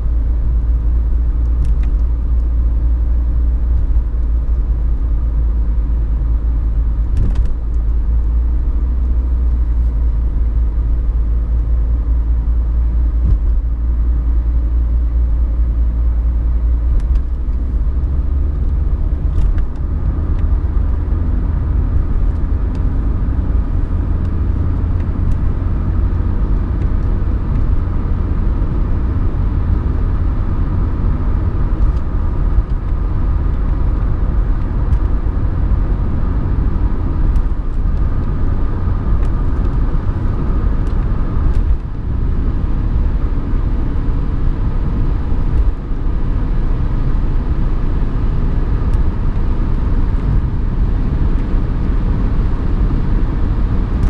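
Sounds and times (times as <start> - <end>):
diesel engine running: 0.0 - 54.0
tyre and road rumble: 0.0 - 54.0.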